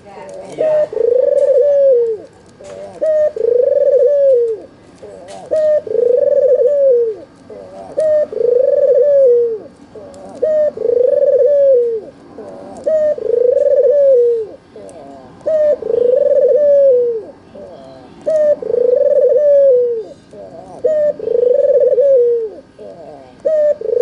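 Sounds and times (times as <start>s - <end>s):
dove cooing: 0.4s - 24.0s.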